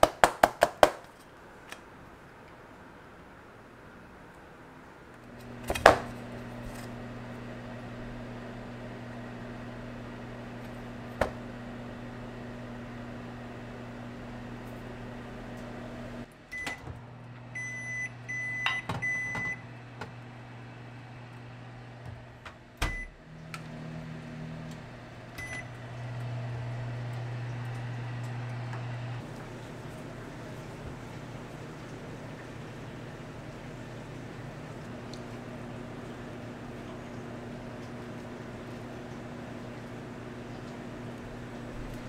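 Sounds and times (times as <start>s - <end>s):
oven fan humming: 5.2s - 42.0s.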